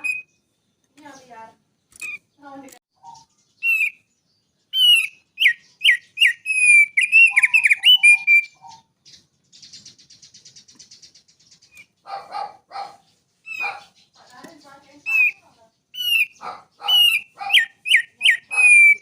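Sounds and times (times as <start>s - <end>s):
buzzy bird trill: 0.0s - 19.0s
harsh bird calls: 0.0s - 19.0s
songbird singing: 0.0s - 19.0s.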